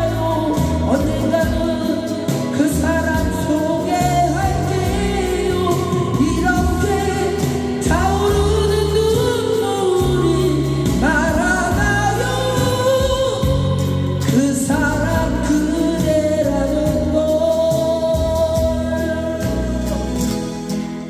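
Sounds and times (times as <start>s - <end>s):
backing music with bass: 0.0s - 21.0s
person singing with vibrato: 0.0s - 21.0s.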